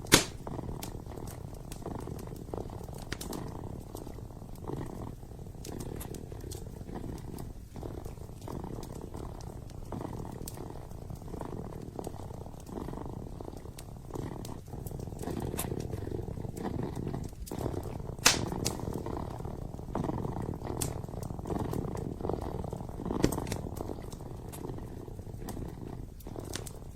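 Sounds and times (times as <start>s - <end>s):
kitten purring: 0.0s - 26.9s
wood fire crackling: 0.0s - 26.9s.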